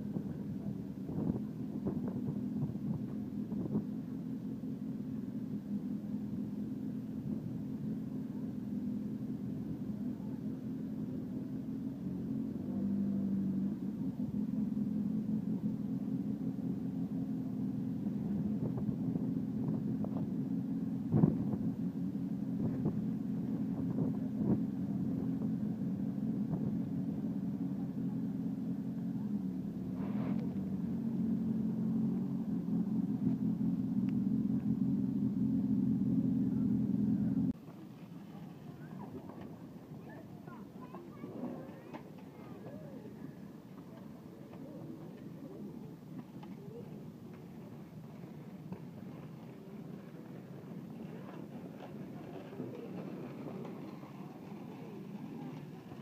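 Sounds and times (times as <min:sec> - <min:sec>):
low engine hum: 0:00.0 - 0:56.0.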